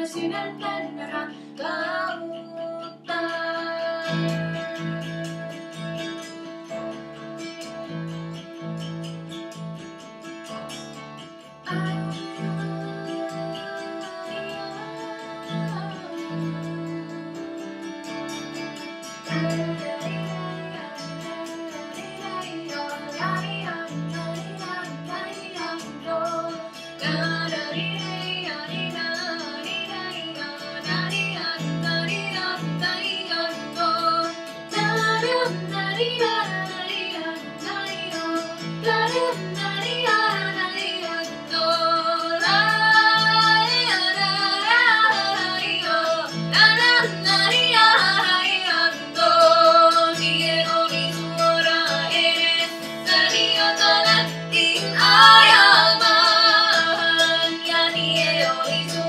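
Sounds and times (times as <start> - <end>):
women singing without words: 0.0 - 8.7, 11.6 - 59.0
plucked zither tune: 0.0 - 59.0.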